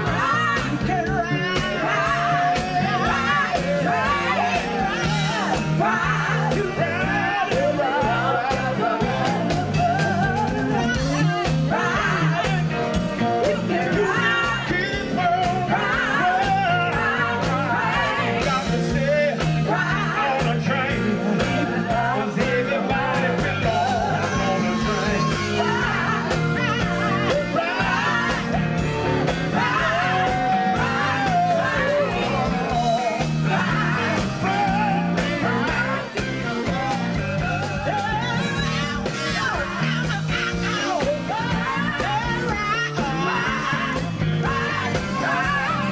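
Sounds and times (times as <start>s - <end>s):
live band with drums and bass: 0.0s - 45.9s
women's vocal group singing: 0.0s - 45.9s.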